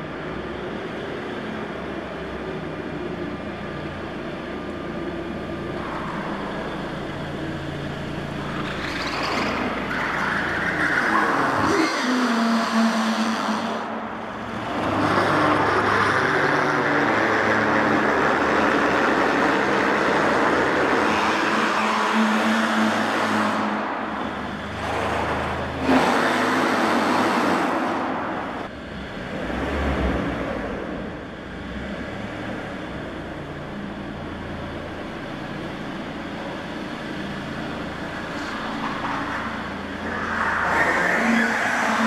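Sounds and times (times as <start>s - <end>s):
car driving in parking garage: 0.0s - 42.0s.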